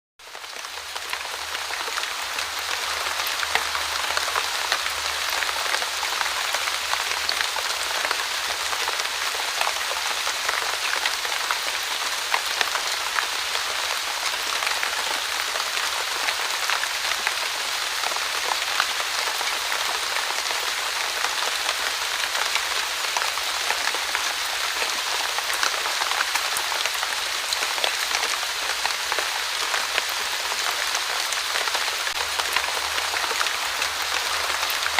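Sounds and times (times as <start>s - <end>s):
light rain on a surface: 0.2s - 34.9s.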